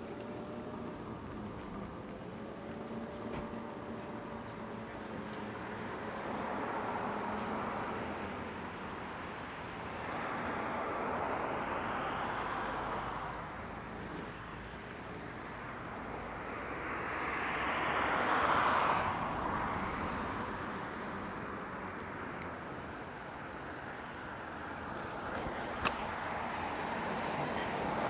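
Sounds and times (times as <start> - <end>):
vehicles passing by: 0.0 - 28.0.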